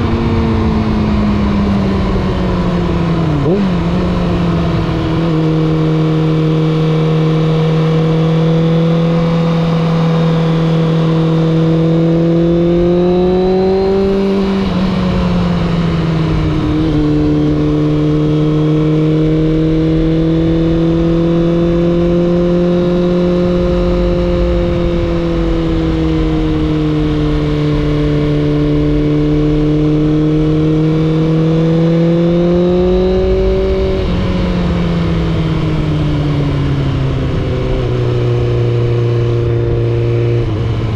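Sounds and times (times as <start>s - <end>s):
motorcycle engine and exhaust: 0.0s - 40.9s
wind noise: 0.0s - 40.9s.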